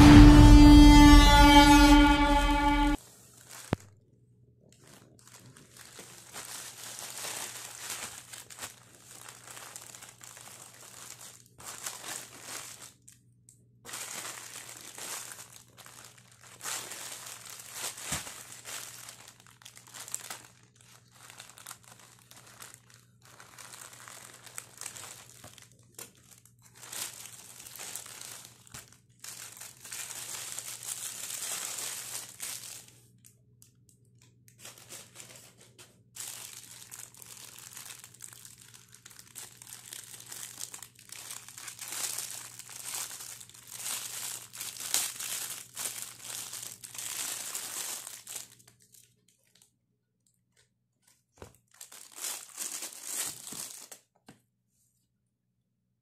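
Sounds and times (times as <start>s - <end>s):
plastic packaging crinkling: 0.0s - 4.0s, 4.6s - 49.7s, 51.0s - 54.2s.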